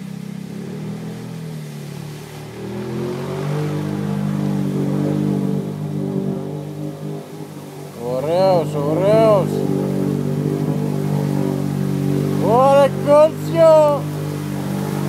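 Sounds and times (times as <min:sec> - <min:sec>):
water splashing: 0:00.0 - 0:15.0
quad bike engine revving: 0:00.5 - 0:15.0.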